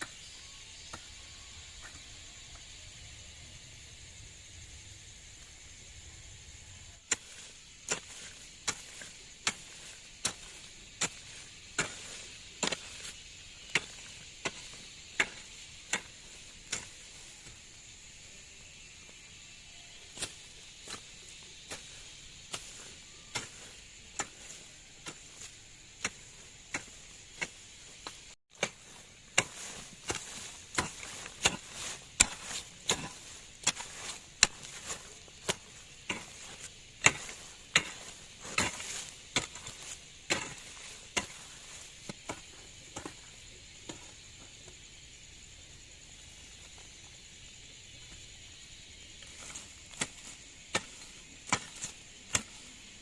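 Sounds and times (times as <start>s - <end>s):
steady high hiss: 0.0s - 53.0s.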